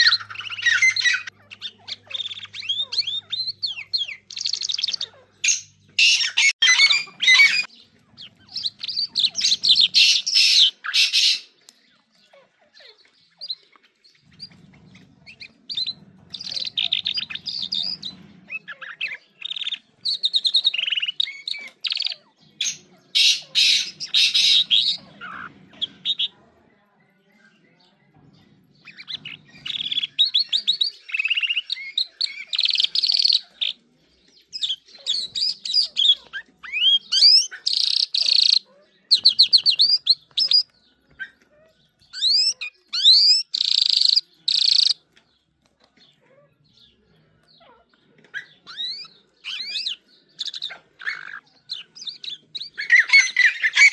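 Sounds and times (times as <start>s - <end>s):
songbird chirping and trilling: 0.0s - 53.9s.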